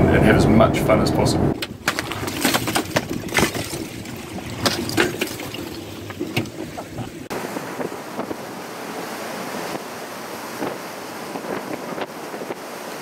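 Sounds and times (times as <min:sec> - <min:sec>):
wind buffeting microphone: 0:00.0 - 0:13.0
sea waves: 0:01.6 - 0:13.0.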